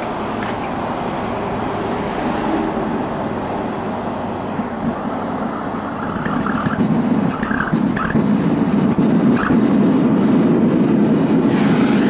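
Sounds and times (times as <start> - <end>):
propane burner roaring: 0.0 - 12.0.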